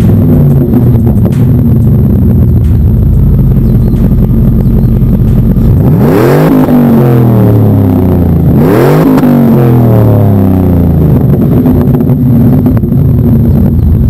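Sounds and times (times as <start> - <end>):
engine revving from idle: 0.0 - 14.0.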